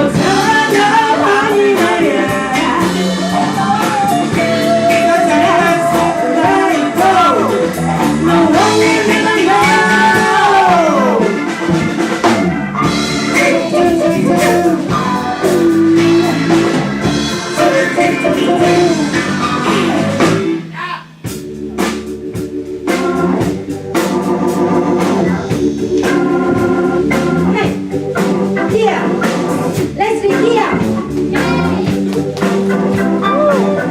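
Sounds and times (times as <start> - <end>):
band playing funk: 0.0 - 33.9.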